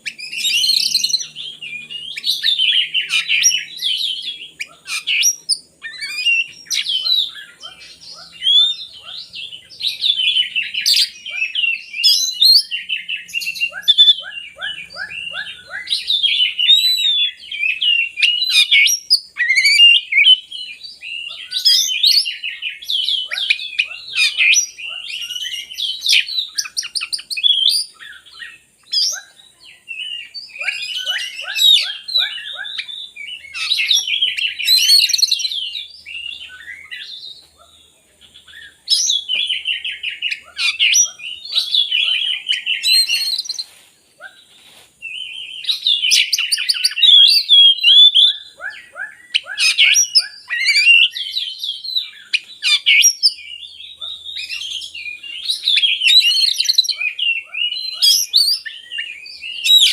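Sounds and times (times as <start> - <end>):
bird singing whistled phrases: 0.0 - 37.5, 38.4 - 43.6, 45.0 - 59.9.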